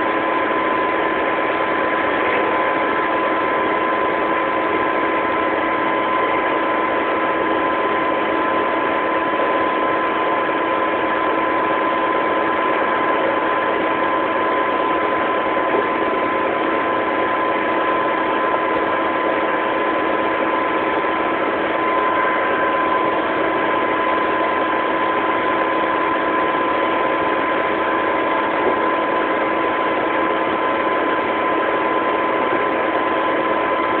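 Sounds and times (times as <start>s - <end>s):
combine harvester engine drone: 0.0s - 34.0s
high steady whine: 0.0s - 34.0s.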